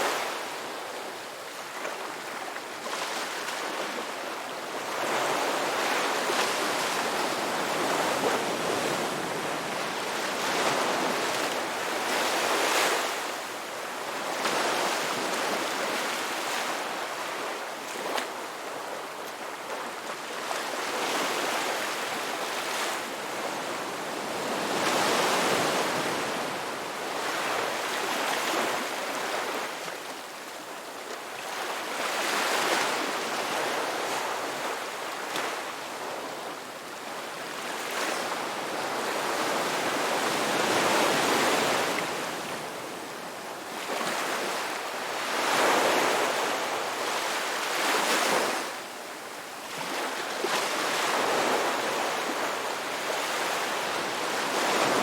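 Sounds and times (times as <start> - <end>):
ocean waves breaking on shore: 0.0 - 30.3, 30.9 - 55.0.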